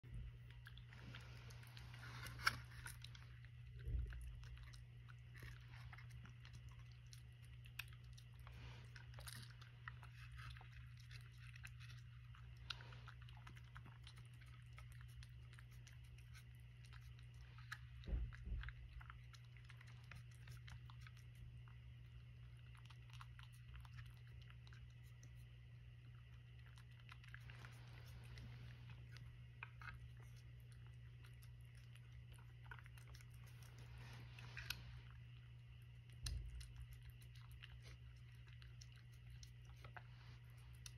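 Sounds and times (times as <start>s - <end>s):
cat chewing with crunching clicks: 0.0s - 40.9s
steady low hum: 0.0s - 40.9s.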